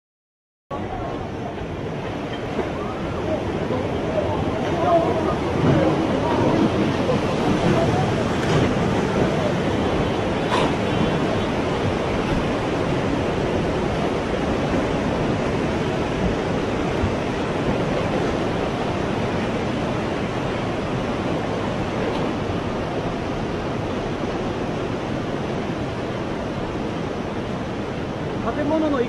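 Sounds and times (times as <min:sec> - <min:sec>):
floodwater rushing: 0:00.7 - 0:29.0.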